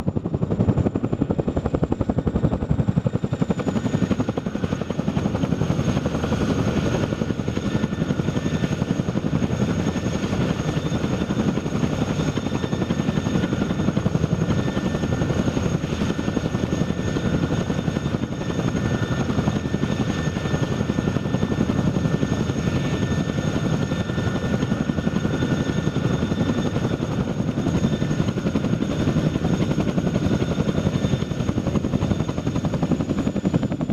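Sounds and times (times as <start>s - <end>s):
turbine engine whine: 0.0s - 33.9s.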